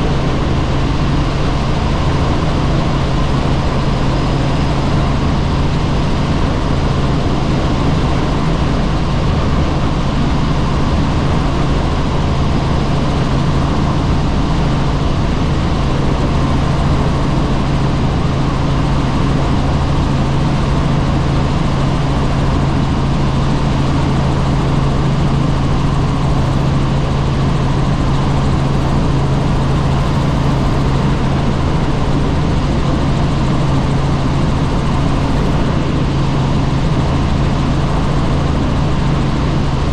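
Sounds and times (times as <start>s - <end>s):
helicopter drone: 0.0s - 39.9s
rushing wind: 0.0s - 39.9s.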